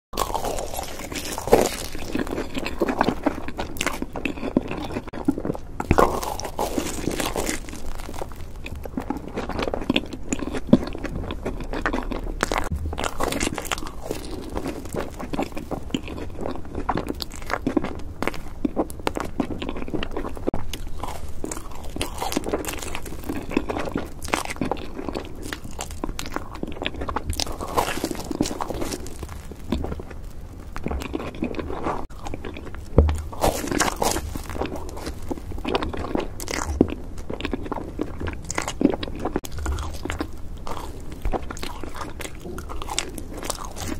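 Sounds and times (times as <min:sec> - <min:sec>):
biting and chewing marshmallows: 0:00.2 - 0:43.9.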